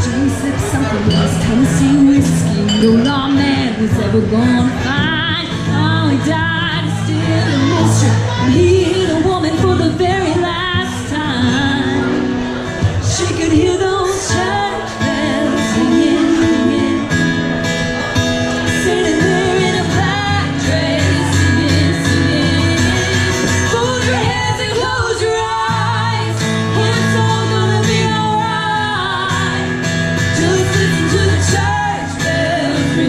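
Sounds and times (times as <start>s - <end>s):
woman singing: 0.0s - 12.3s, 13.0s - 17.4s, 18.7s - 33.0s
live band playing country-pop: 0.0s - 33.0s.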